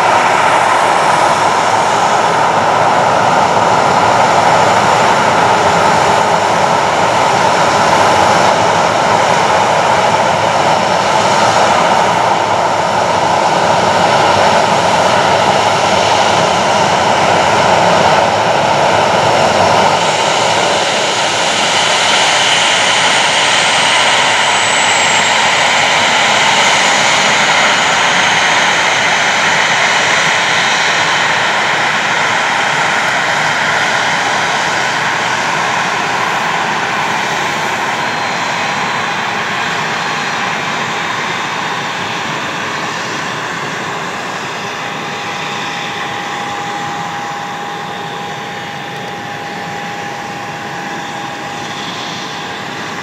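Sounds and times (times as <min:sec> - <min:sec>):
high engine whine: 0:00.0 - 0:53.0
jet engines roaring: 0:00.0 - 0:53.0.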